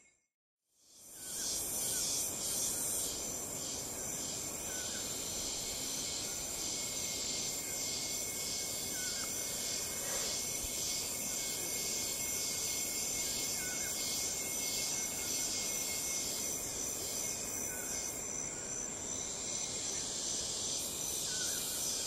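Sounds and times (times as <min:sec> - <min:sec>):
insects buzzing and trilling: 0:00.7 - 0:22.0
insect chirps: 0:00.8 - 0:22.0
low even hiss: 0:00.9 - 0:22.0.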